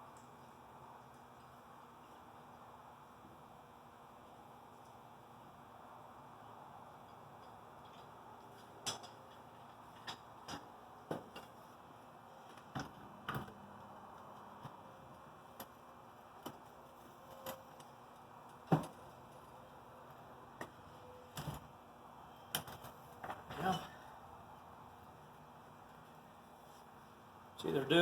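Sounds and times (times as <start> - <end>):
low background hiss: 0.0 - 28.0.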